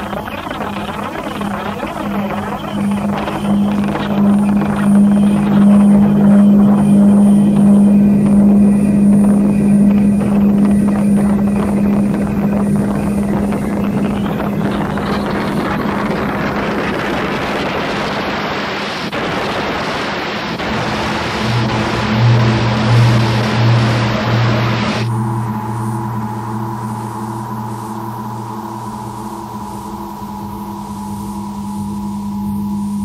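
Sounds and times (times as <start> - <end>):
experimental drone music: 0.0 - 33.0
low humming tone: 0.0 - 33.0
low pulsing tone: 0.0 - 33.0
noisy hissing wash: 0.0 - 33.0.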